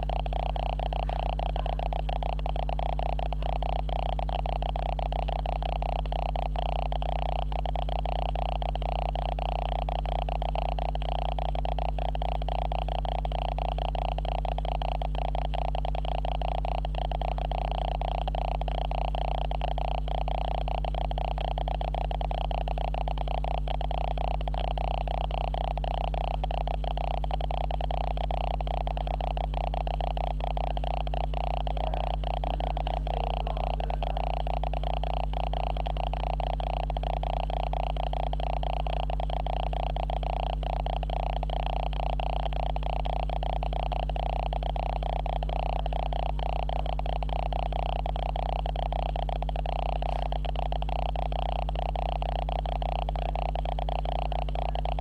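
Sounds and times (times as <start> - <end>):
camera electronic hum and buzz: 0.0 - 55.0.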